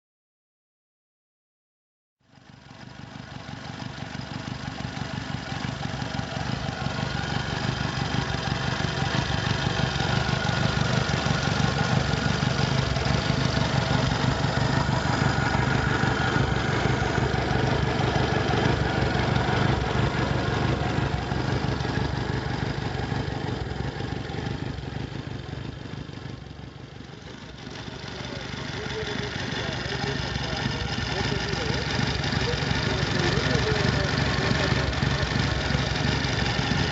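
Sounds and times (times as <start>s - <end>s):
motorcycle engine idling: 2.2s - 36.9s.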